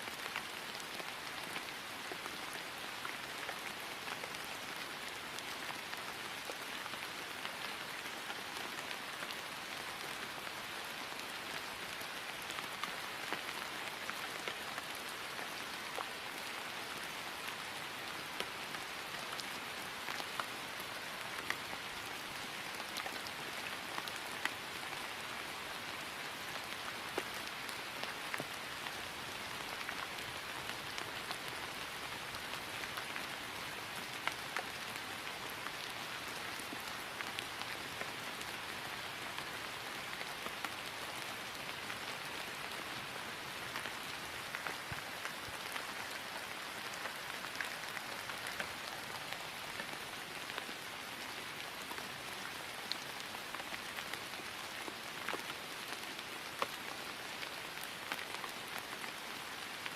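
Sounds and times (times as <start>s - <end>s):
rain falling on grass: 0.0s - 59.9s.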